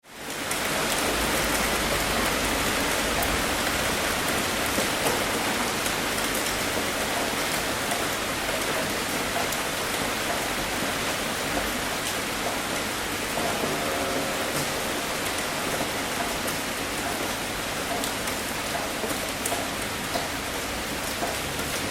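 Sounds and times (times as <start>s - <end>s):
heavy rain on a tin roof: 0.0s - 21.9s.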